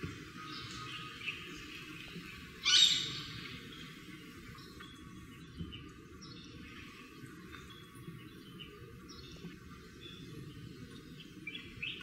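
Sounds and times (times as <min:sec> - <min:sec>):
steady low background noise: 0:00.0 - 0:12.0.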